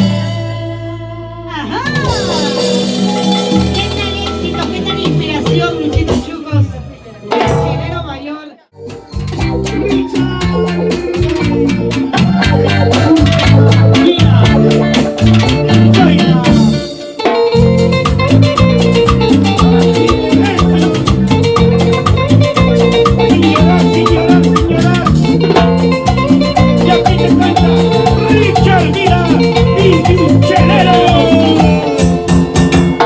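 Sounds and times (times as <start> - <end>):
bass line: 0.0 - 33.0
latin dance band playing: 0.0 - 33.0
percussion beat: 1.8 - 6.5, 7.3 - 33.0.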